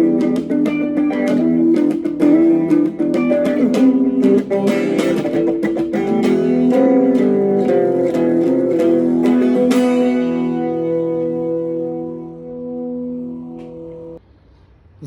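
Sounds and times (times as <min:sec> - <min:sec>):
guitar plucked and strummed: 0:00.0 - 0:14.2.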